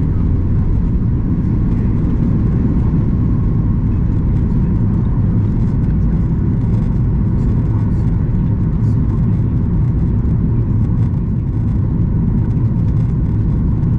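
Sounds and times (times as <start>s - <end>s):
aircraft cabin engine rumble: 0.0s - 13.9s.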